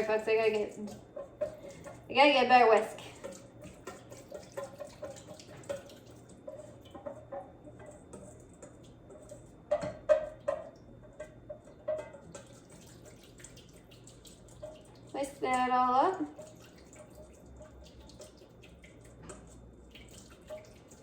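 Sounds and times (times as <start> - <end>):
whisk scraping against bowl: 0.0 - 21.0.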